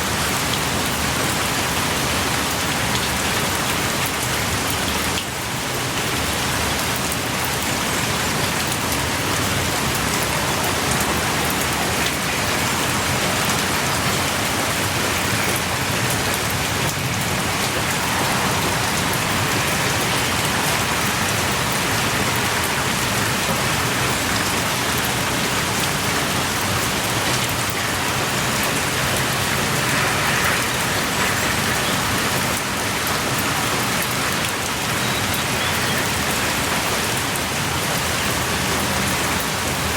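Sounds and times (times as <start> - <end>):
heavy rain pouring: 0.0 - 39.9
raindrops pattering: 0.0 - 39.9.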